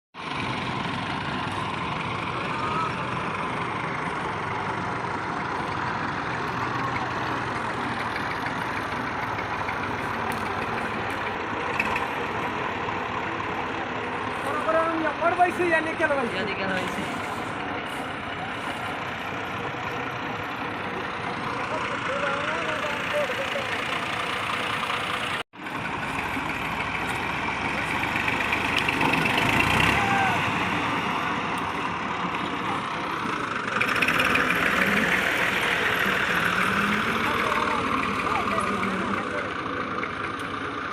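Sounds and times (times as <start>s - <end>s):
tractor diesel engine running: 0.2s - 40.9s.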